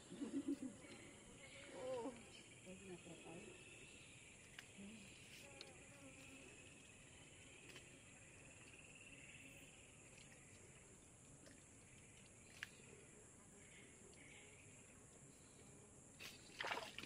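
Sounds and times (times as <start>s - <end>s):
faint chorus of jungle insects: 0.0s - 17.0s.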